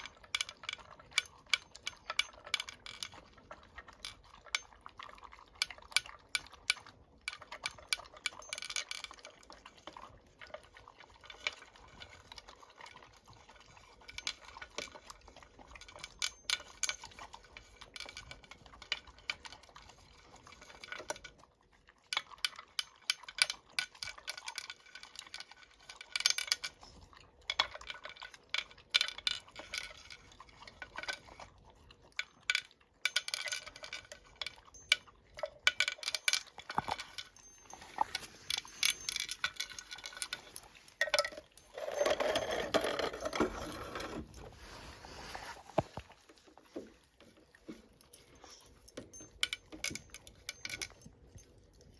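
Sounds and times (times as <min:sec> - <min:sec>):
dog eating from a bowl: 0:00.0 - 0:51.9.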